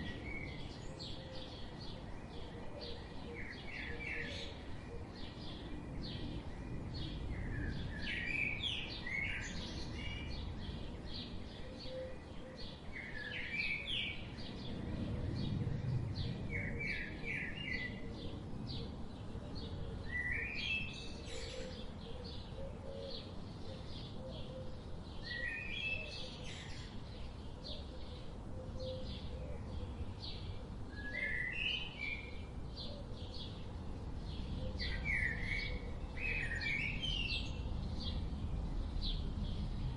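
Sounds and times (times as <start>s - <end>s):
low background noise: 0.0s - 39.9s.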